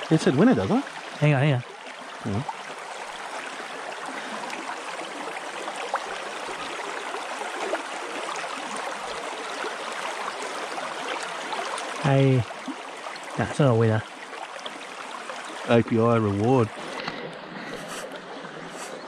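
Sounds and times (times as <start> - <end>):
stream running over stones: 0.0 - 19.0.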